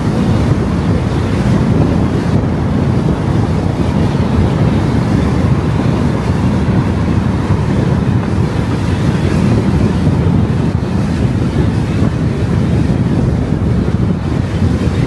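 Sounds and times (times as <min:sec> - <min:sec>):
heavy low rumble: 0:00.0 - 0:15.0
road and wind noise: 0:00.0 - 0:15.0
wind buffeting microphone: 0:00.0 - 0:15.0.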